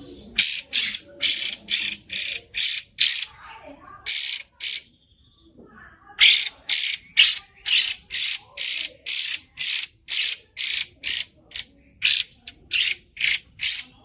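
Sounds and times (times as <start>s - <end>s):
bird giving rasping calls: 0.3s - 3.4s, 4.1s - 4.9s, 6.2s - 14.0s.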